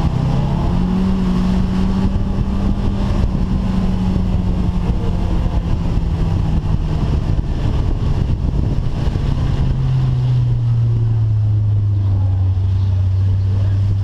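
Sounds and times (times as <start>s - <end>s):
steady car noise: 0.0s - 14.0s.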